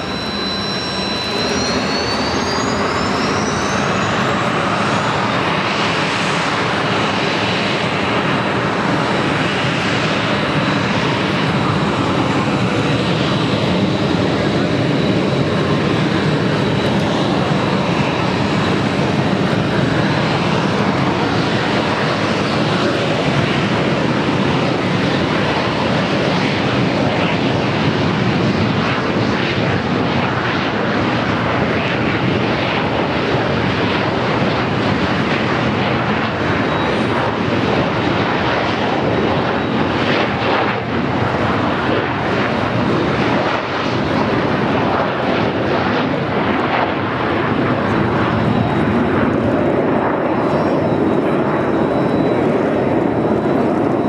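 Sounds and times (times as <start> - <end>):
jet engines at takeoff: 0.0 - 54.0.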